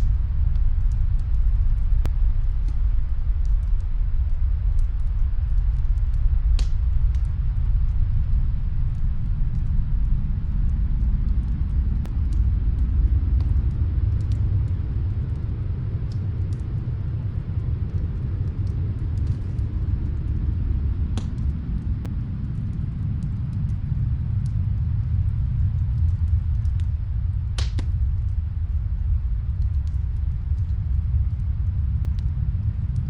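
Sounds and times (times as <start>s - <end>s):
snowstorm wind rumble: 0.0s - 33.0s
wood fire crackling: 0.0s - 33.0s.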